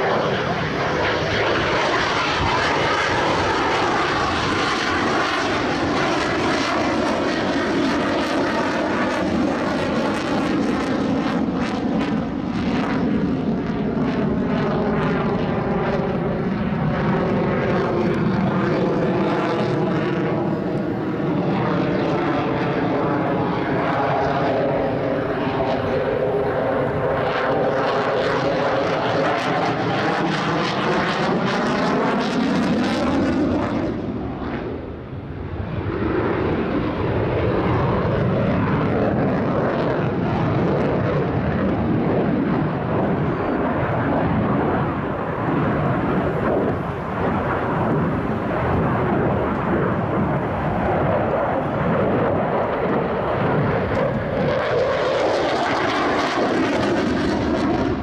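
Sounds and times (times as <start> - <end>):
jet engine roar: 0.0 - 58.0.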